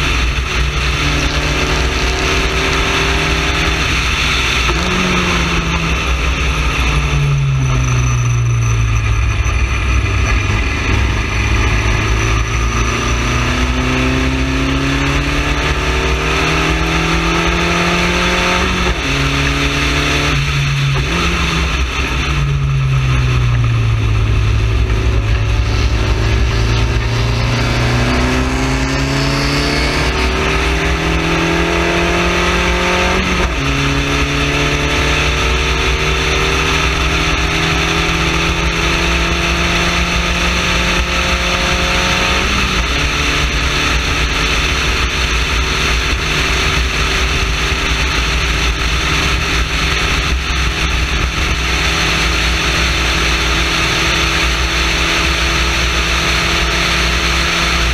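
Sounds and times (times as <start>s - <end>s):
race car engine at full throttle: 0.0s - 57.9s
wind and road noise: 0.0s - 57.9s.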